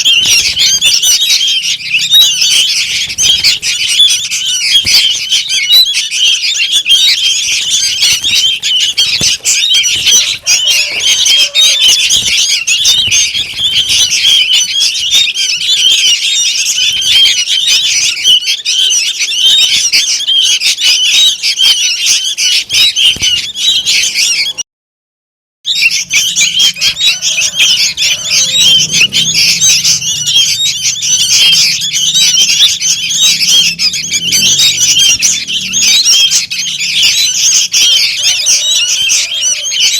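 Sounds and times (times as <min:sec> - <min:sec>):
bird fledglings chirping: 0:00.0 - 0:24.6, 0:25.7 - 0:39.9.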